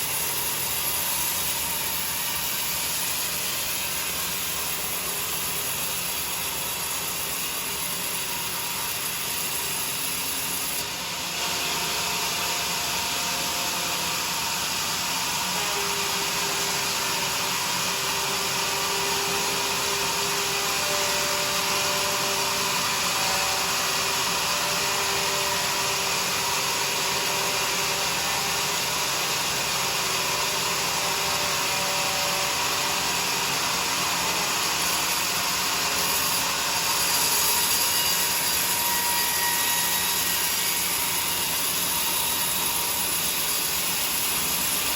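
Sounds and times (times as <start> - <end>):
saw cutting through log: 0.0 - 44.9.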